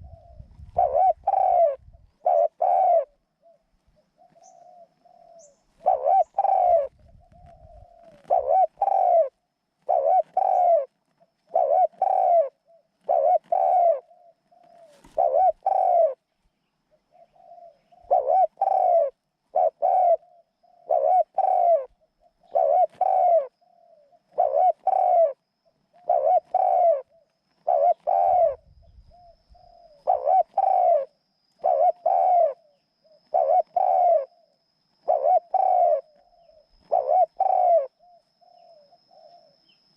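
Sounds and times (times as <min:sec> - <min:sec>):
dove cooing: 0:00.0 - 0:16.3, 0:16.9 - 0:39.8.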